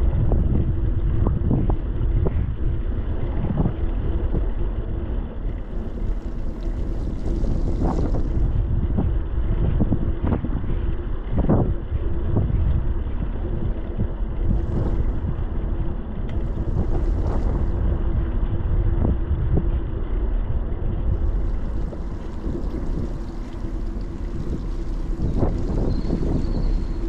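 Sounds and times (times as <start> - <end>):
faint steady hum: 0.0 - 27.0
wind rumbling on microphone: 0.0 - 27.0.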